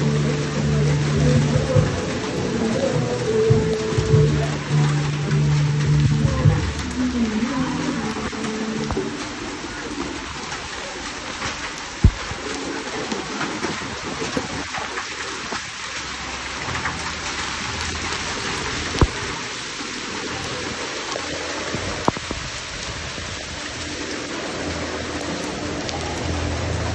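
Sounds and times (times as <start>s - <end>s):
rain and hail on paving: 0.0s - 26.9s.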